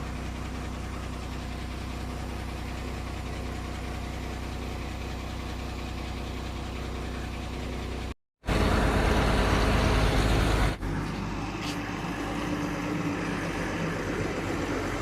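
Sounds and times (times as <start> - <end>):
road traffic noise: 0.0 - 15.0
truck engine rumble: 0.0 - 15.0.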